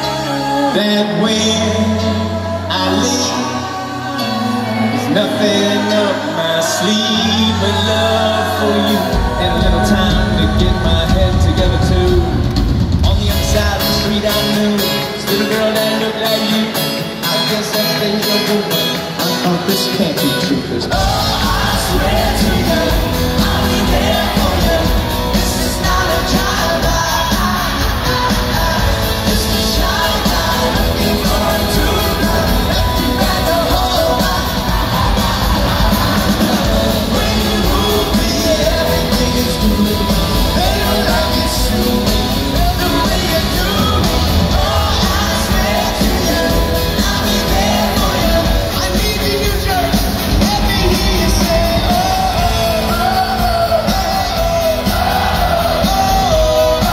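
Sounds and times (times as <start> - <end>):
lead vocals singing: 0.0 - 56.9
pop-rock band playing: 0.0 - 56.9.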